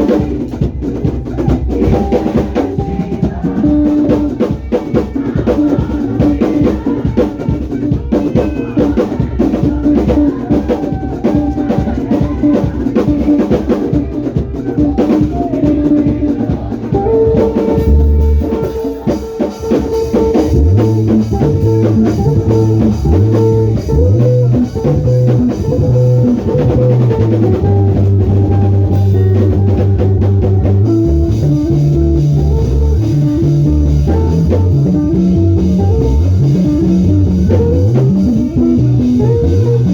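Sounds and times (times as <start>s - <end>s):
bass guitar: 0.0s - 39.9s
drum kit: 0.0s - 39.9s
guitar: 0.0s - 39.9s.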